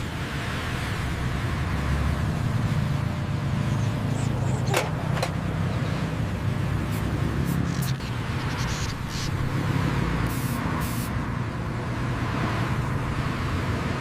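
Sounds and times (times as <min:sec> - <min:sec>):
hissing swishes of passing cars: 0:00.0 - 0:14.0
low rumble of vehicles: 0:00.0 - 0:14.0.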